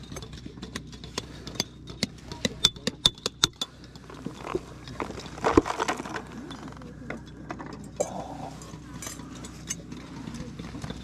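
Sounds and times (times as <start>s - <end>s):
loose rock scraping and clattering: 0.0s - 11.0s.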